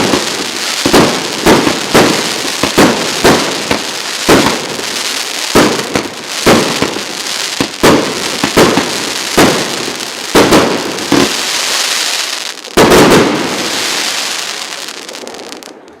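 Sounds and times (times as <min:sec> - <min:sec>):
firework hiss: 0:00.0 - 0:15.8
firework bangs: 0:00.0 - 0:16.0.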